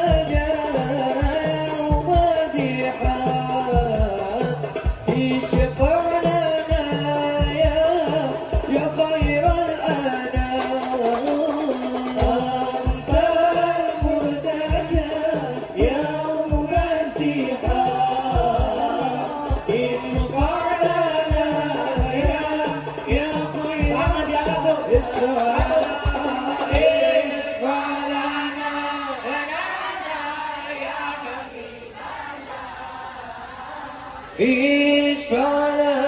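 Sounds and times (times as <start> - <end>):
men singing through microphones: 0.0 - 36.0.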